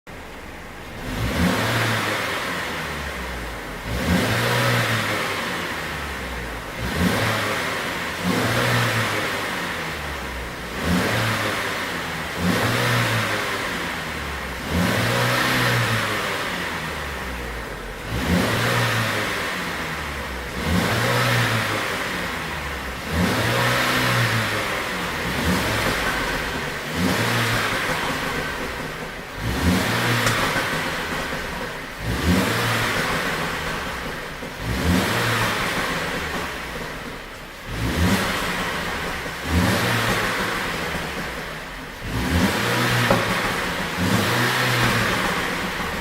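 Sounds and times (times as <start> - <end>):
car engine revving: 0.1 - 46.0.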